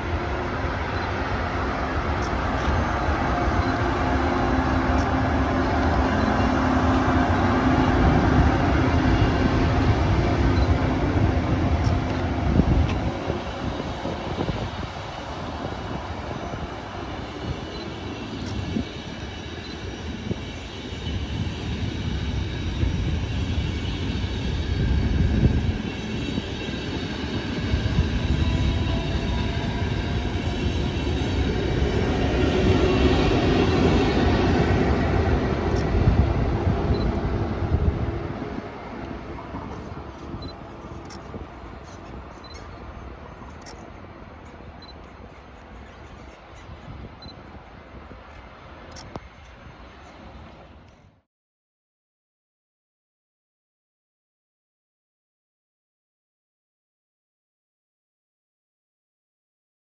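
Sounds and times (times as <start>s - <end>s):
train wheels rumbling on rails: 0.0s - 51.2s.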